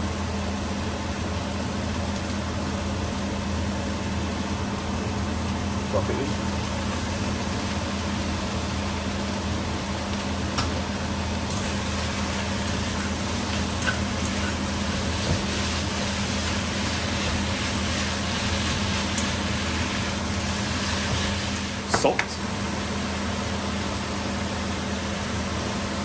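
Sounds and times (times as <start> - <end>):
steady low hum: 0.0 - 26.0
meat sizzling in a pot: 0.2 - 26.0.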